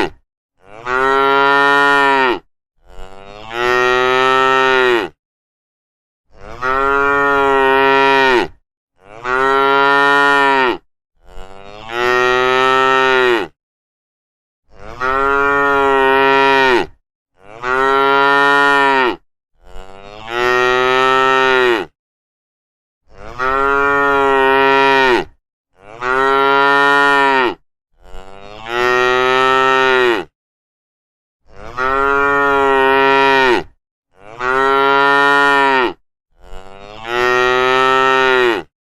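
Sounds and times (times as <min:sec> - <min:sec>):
cows mooing: 0:00.6 - 0:05.2, 0:06.4 - 0:13.5, 0:14.8 - 0:21.9, 0:23.2 - 0:30.3, 0:31.5 - 0:38.7.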